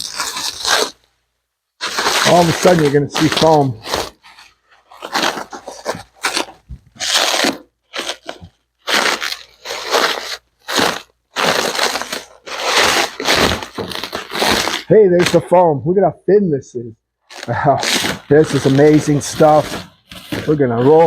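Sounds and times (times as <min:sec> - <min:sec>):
plastic packaging rustling: 0:01.8 - 0:15.5, 0:17.3 - 0:21.0.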